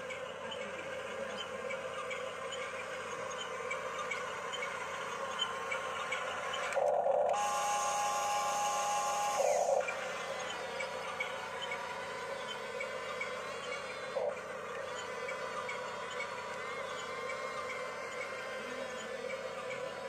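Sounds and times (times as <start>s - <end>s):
small electric motor whining: 0.0s - 20.0s.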